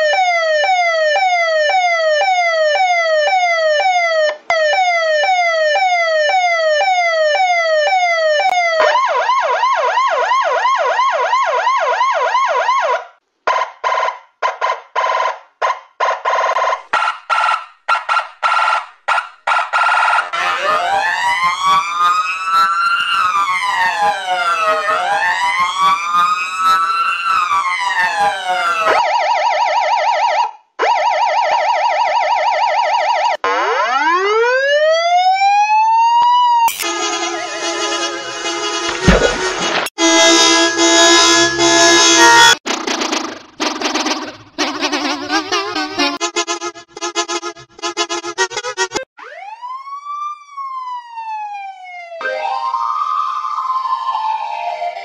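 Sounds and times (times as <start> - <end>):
police siren: 0.0 - 42.6, 48.4 - 55.0.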